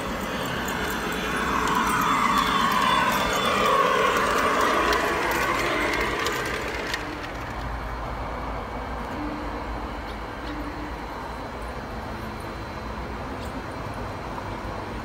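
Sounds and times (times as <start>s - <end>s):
model train rumbling on rails: 0.0s - 13.2s.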